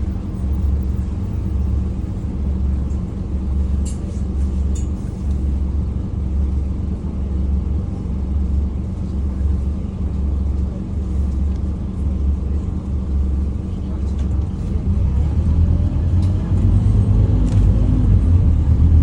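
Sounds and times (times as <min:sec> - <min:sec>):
bus diesel engine drone: 0:00.0 - 0:19.0
road noise hum: 0:00.0 - 0:19.0.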